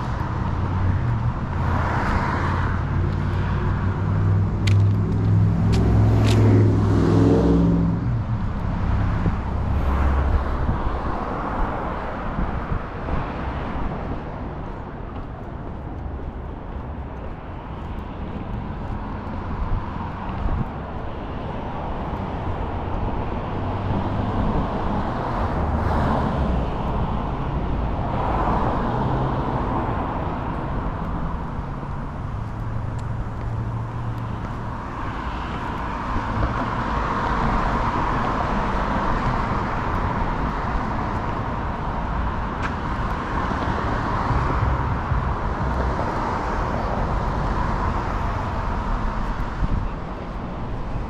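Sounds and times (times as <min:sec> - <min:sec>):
cars passing: 0:00.0 - 0:51.0
traffic hum: 0:00.0 - 0:51.0.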